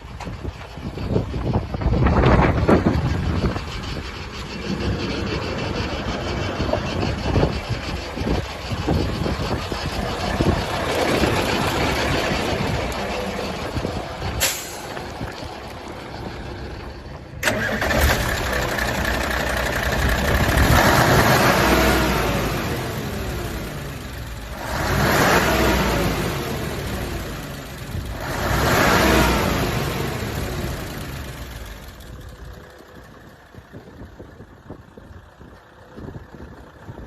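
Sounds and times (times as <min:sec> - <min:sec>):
diesel truck engine running: 0:00.0 - 0:37.0.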